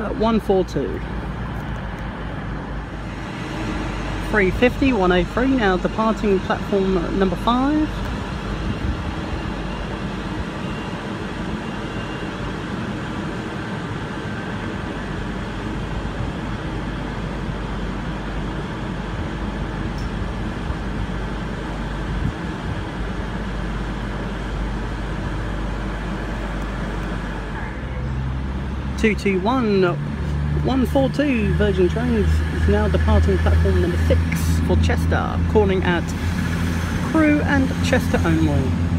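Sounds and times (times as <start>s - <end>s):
trains rumbling: 0.0s - 38.9s.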